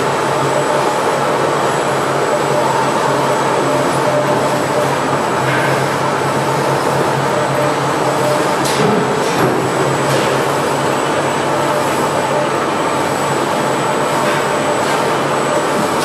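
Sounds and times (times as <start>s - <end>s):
machinery mechanical hum: 0.0s - 16.0s.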